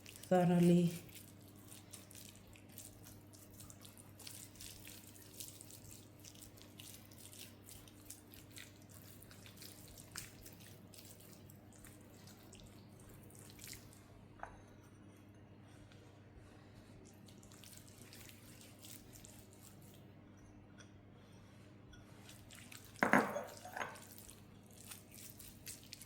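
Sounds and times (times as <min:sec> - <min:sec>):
wet squelches of hands massaging meat: 0:00.0 - 0:14.2, 0:15.8 - 0:20.1, 0:22.2 - 0:26.0.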